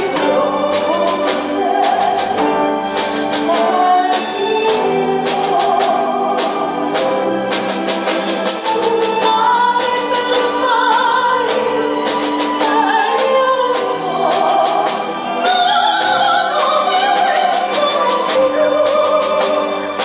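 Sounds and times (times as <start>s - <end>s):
woman singing operatically: 0.0s - 7.0s, 8.5s - 20.0s
instrumental accompaniment: 0.0s - 20.0s.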